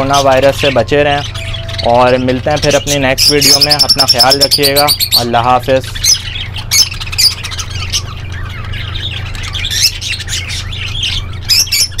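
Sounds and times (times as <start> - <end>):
budgerigars chirping: 0.0 - 12.0
low hum: 0.0 - 12.0.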